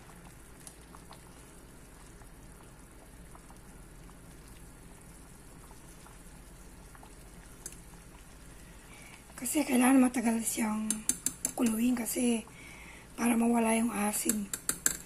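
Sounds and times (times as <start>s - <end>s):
syrup bubbling at a boil: 0.0s - 15.0s.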